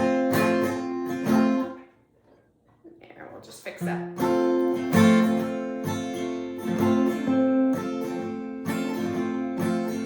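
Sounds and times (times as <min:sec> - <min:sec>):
acoustic guitar strumming chords: 0:00.0 - 0:02.0, 0:03.5 - 0:10.0.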